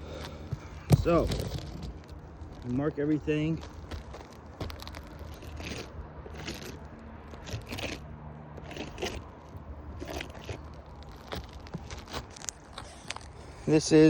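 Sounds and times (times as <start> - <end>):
crunching on asphalt shingles: 0.0 - 14.0.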